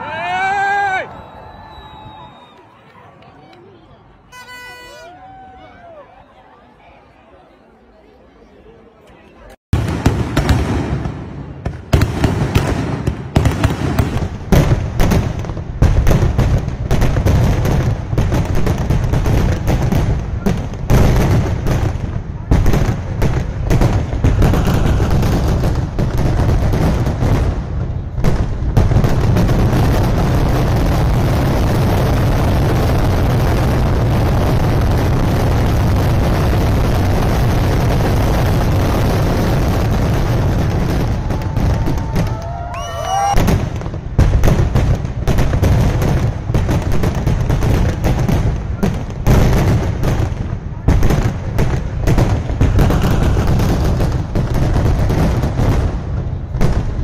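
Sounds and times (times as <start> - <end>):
fireworks bangs and explosions: 9.7 - 57.0.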